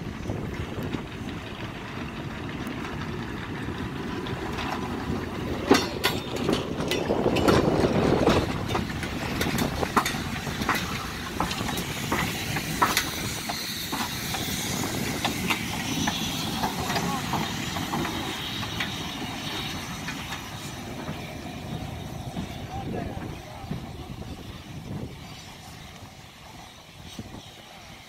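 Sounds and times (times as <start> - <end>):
steam locomotive wheels clanking: 0.0 - 28.0
steam hissing: 5.1 - 28.0.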